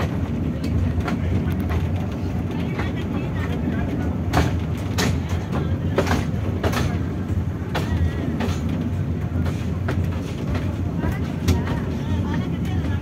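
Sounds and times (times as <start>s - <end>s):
train wheels clicking: 0.0s - 13.0s.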